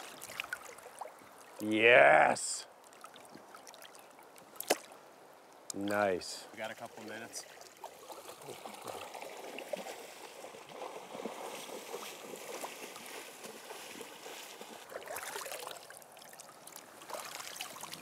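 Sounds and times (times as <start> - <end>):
river water splashing: 0.0 - 1.7, 2.7 - 18.0.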